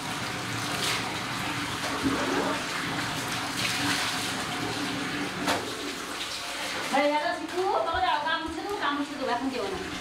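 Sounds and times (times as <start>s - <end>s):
water running and splashing: 0.0s - 10.0s.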